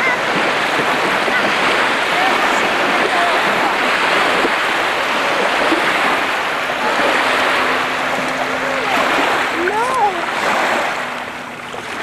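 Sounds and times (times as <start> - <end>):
lake waves washing on sand: 0.0 - 12.0.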